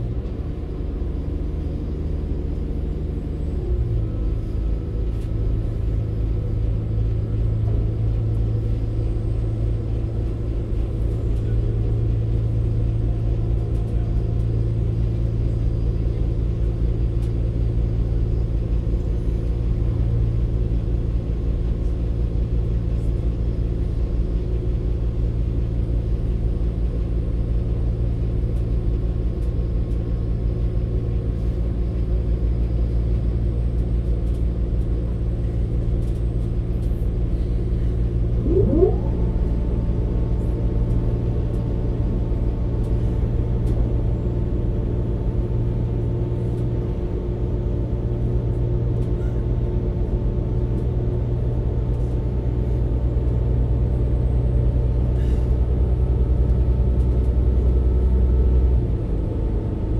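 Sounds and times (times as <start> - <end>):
train low drone and rumble: 0.0 - 59.9.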